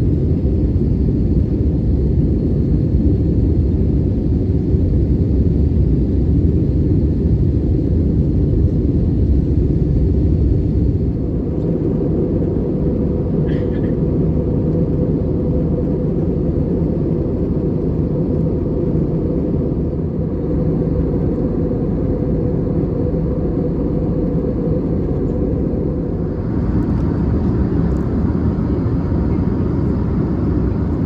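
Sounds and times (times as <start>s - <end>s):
aircraft cabin roar: 0.0s - 31.0s.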